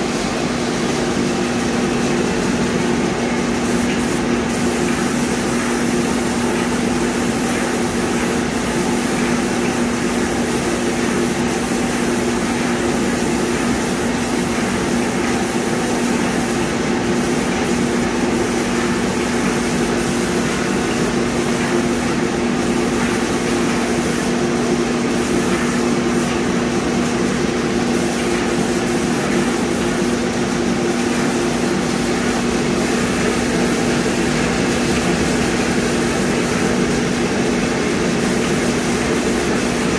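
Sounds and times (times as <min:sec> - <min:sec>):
paint sprayer motor hum: 0:01.3 - 0:39.9
spray gun hissing: 0:03.0 - 0:39.9.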